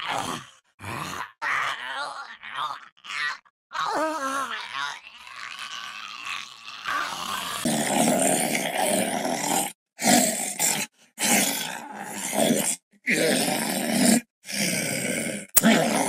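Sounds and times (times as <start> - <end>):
growling zombie voice: 0.0 - 16.0.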